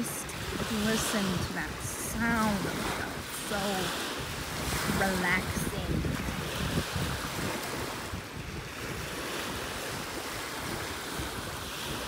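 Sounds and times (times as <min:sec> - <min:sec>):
small waves washing on pebbly shore: 0:00.0 - 0:12.0
wind rumbling on microphone: 0:00.0 - 0:12.0.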